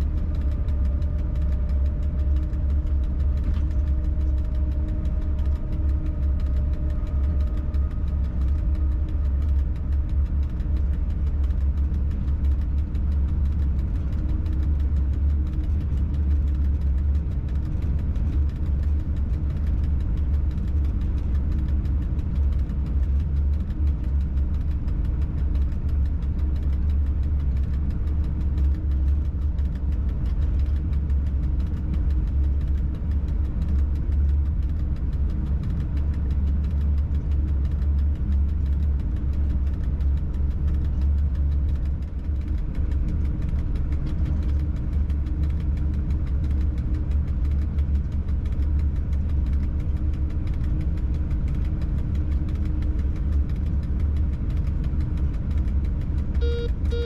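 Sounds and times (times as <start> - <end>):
locomotive rumble and hum: 0.0 - 57.0.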